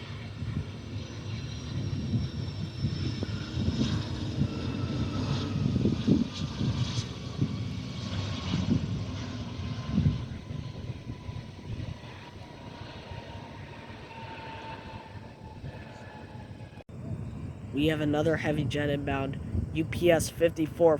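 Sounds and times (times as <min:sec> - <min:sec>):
jet engine whine: 0:00.0 - 0:20.9
jet engines rumbling: 0:00.0 - 0:20.9.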